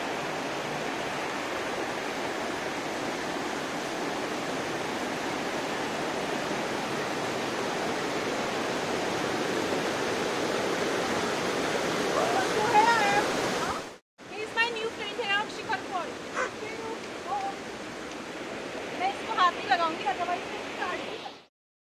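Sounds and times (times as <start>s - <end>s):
stream flowing over rocks: 0.0s - 21.2s.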